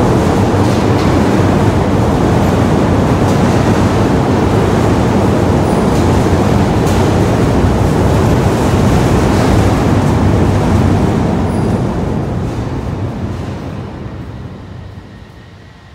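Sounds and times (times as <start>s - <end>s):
industrial drum and conveyor rumbling: 0.0s - 15.9s.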